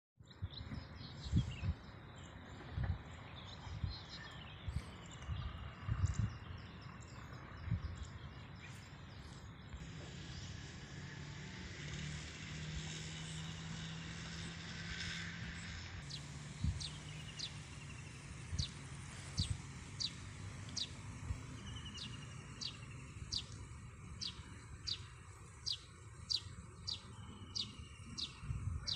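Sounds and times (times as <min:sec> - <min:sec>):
birds chirping: 0:00.2 - 0:28.9.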